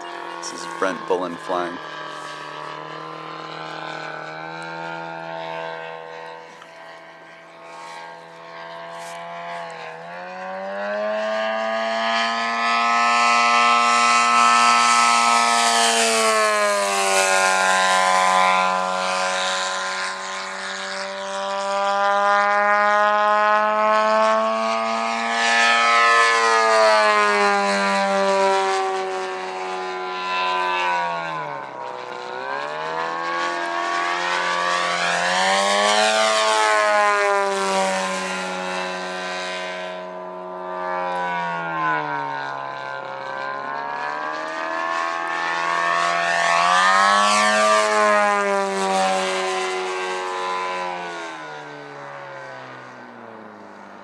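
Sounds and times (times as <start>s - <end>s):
model airplane engine in flight: 0.0s - 54.0s.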